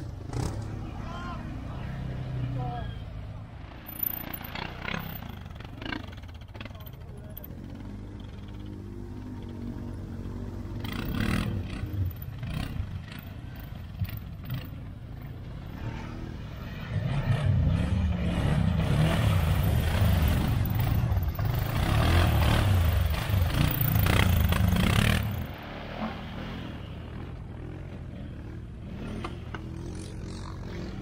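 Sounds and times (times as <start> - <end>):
quad bike engine revving: 0.0 - 2.4, 4.2 - 14.8, 16.9 - 31.0.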